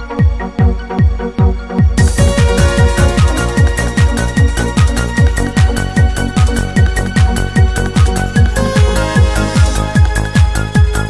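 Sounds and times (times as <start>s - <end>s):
electronic dance music: 0.0s - 11.0s
steady kick drum: 0.0s - 11.0s.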